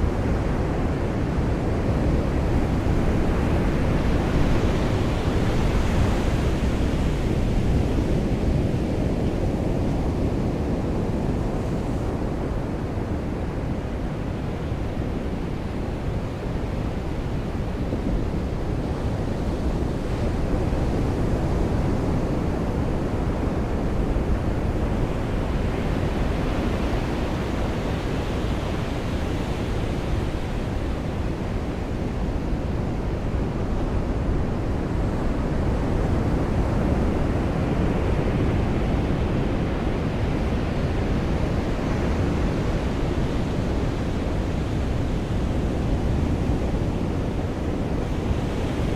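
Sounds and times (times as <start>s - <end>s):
waves washing onto beach: 0.0s - 48.9s.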